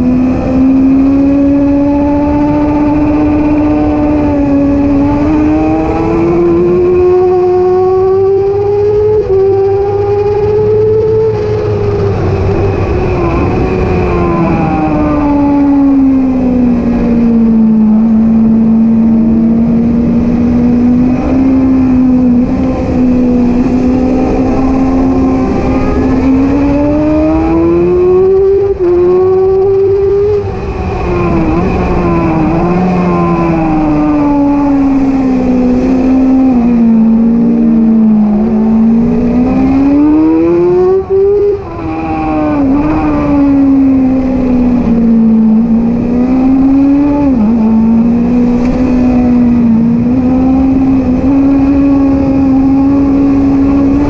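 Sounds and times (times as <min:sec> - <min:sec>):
motorcycle engine at speed: 0:00.0 - 0:54.0
wind rushing: 0:00.0 - 0:54.0.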